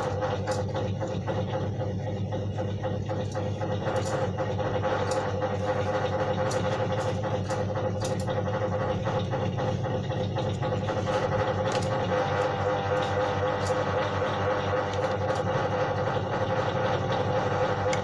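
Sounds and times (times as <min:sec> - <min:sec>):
small motor humming: 0:00.0 - 0:18.0.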